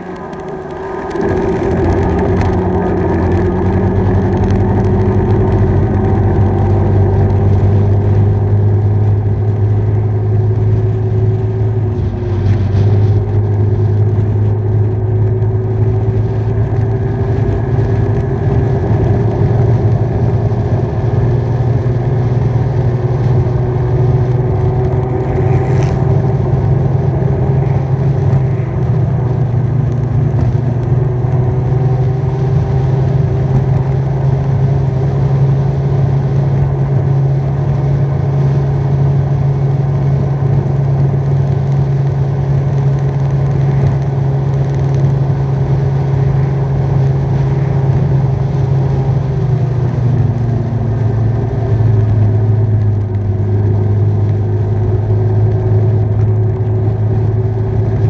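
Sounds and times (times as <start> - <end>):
motorcycle engine running: 0.0 - 58.0
wind rush: 0.0 - 58.0.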